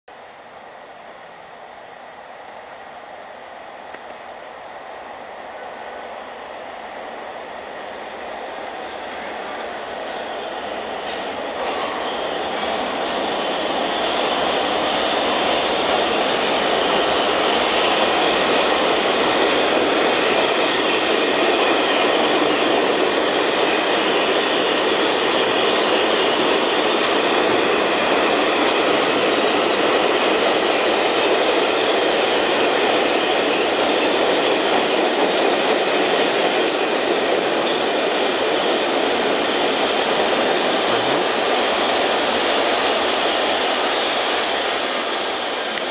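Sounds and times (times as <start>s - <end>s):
steel wheels rushing on rail: 0.1s - 45.9s
subway train passing: 0.1s - 45.9s.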